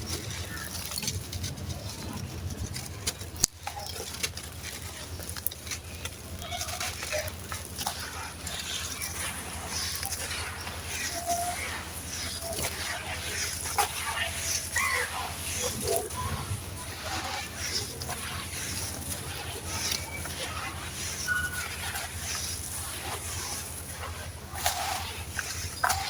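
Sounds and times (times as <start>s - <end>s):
sand cement crumbling and crunching: 0.0s - 26.0s.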